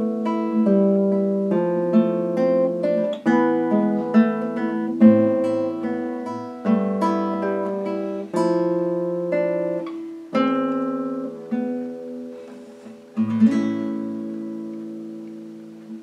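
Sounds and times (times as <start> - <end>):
classical guitar chords: 0.0 - 16.0.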